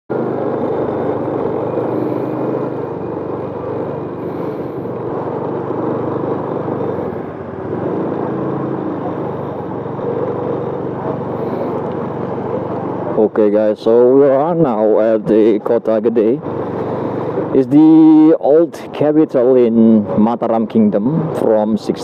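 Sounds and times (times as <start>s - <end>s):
motorcycle engine running: 0.1s - 18.4s.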